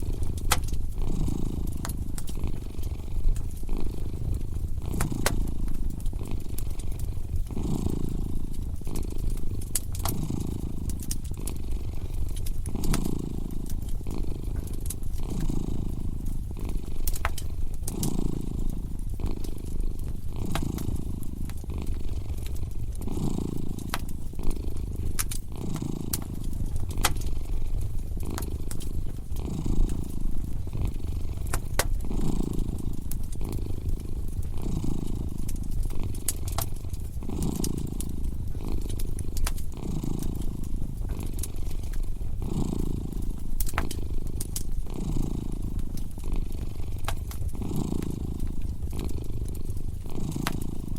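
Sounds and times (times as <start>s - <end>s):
cat purring: 0.0s - 50.9s
crackling fireplace fire: 0.0s - 50.9s.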